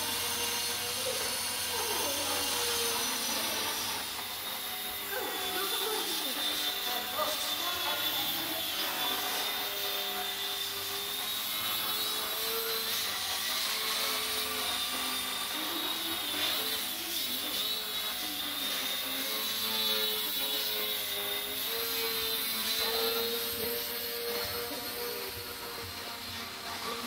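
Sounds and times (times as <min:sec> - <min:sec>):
model aircraft motors whining: 0:00.0 - 0:27.0.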